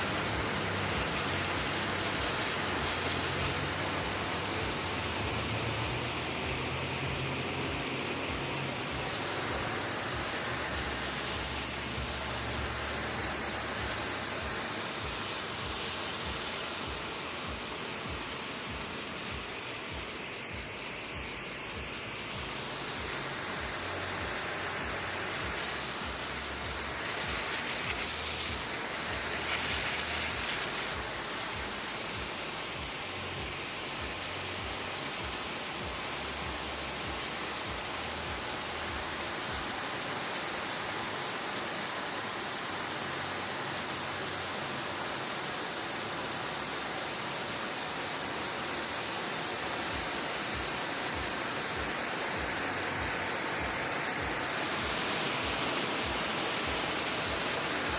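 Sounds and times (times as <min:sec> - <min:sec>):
water spraying onto grass: 0:00.0 - 0:57.9.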